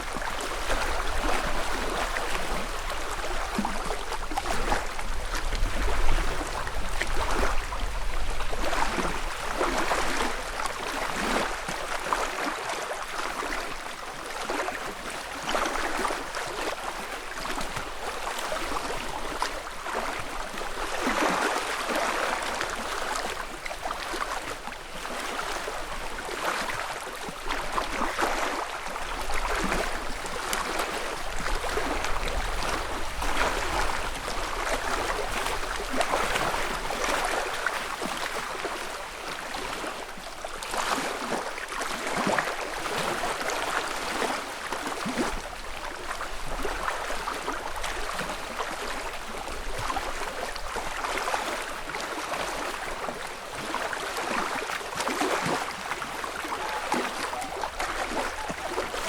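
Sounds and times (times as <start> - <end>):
small waves lapping on shore: 0.0 - 59.0.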